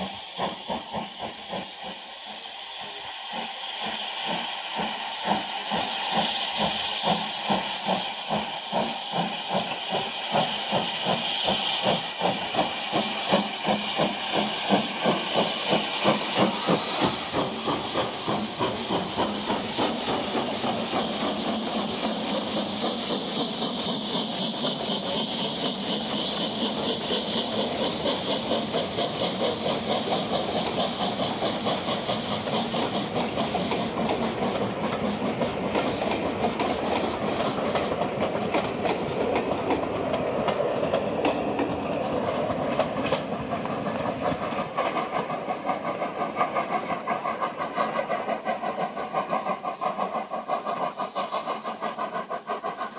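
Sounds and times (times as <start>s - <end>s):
steam hissing: 0.0s - 52.9s
steam locomotive exhaust chuffs: 0.0s - 52.9s.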